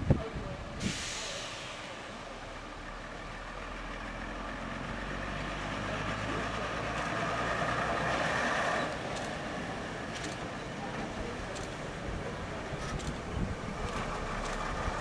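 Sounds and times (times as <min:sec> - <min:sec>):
diesel railbus engine running: 0:00.0 - 0:15.0.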